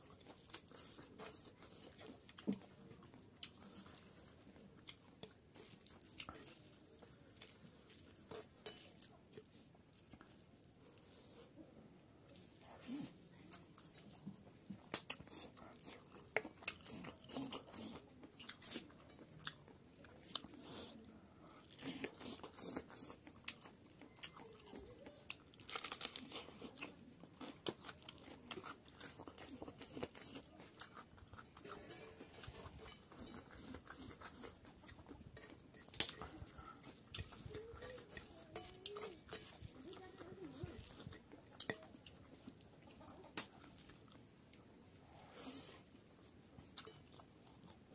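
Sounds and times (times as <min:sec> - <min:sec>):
man chewing and crunching food: 0:00.0 - 0:11.6, 0:12.3 - 0:47.9.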